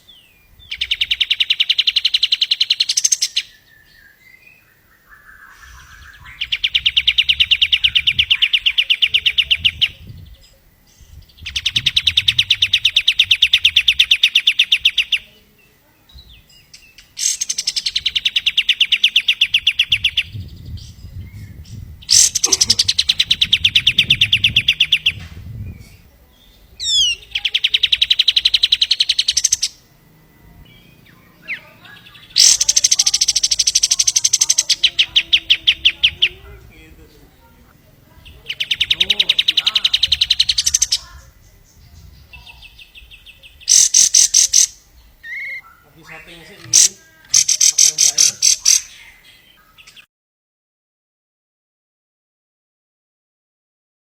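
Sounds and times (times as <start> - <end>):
songbird rapid rattling trill: 0.0 - 15.3, 16.3 - 25.2, 26.0 - 36.6, 38.3 - 49.8.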